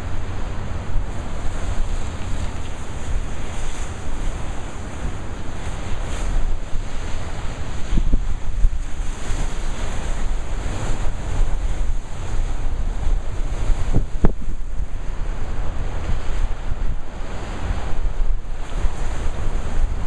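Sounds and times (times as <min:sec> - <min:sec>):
surf crashing against rocks: 0:00.0 - 0:20.0
wind buffeting microphone: 0:00.0 - 0:20.0.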